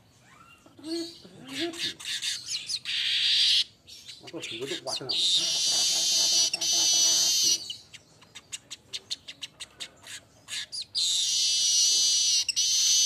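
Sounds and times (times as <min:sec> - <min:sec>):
high buzzy bird song: 0:00.0 - 0:13.0.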